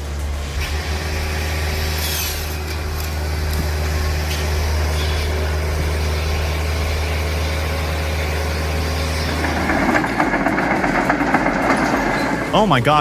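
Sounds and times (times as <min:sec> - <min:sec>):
heavy machine engine humming: 0:00.0 - 0:13.0
rough clattering engine: 0:00.0 - 0:13.0.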